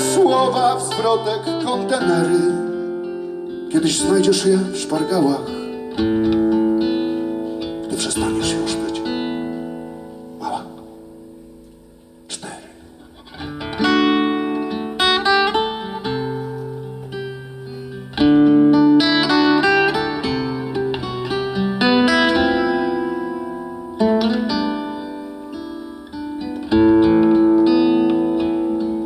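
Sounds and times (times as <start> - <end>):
classical guitar playing: 0.0 - 29.0.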